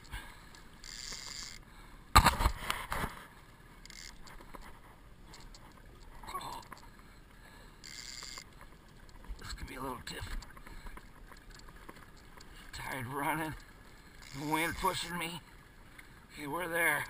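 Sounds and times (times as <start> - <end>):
faint wind: 0.0 - 17.0
water noise: 0.0 - 17.0.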